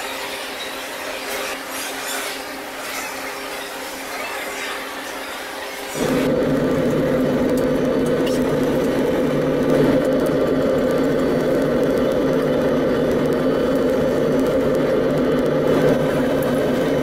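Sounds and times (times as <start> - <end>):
ferry engine drone: 0.0 - 17.0.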